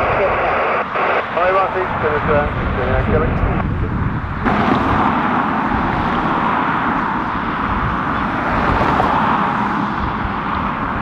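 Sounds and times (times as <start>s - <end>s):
distant jet airliner: 0.0s - 11.0s
wind buffeting microphone: 0.0s - 11.0s.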